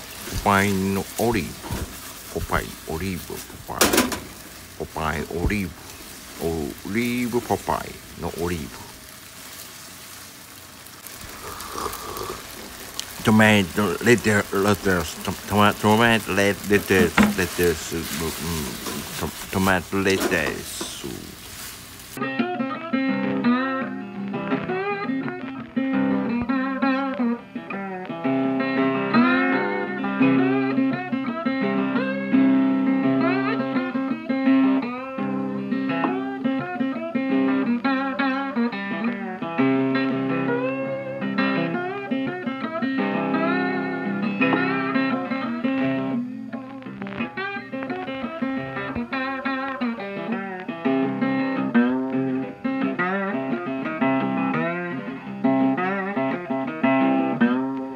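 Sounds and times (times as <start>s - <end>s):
bluesy guitar notes: 0.0s - 57.9s.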